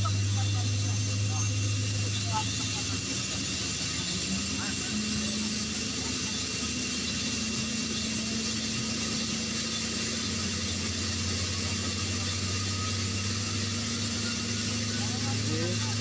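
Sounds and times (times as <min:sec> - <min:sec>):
helicopter engines running: 0:00.0 - 0:16.0
low hum: 0:00.0 - 0:16.0.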